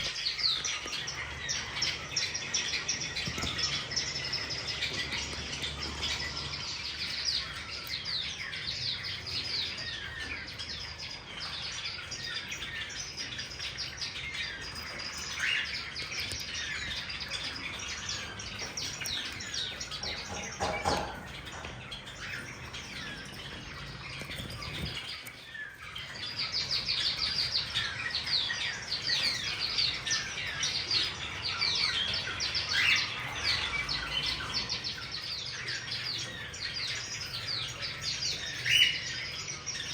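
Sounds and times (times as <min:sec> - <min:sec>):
cage birds chirping and chattering: 0:00.0 - 0:39.9.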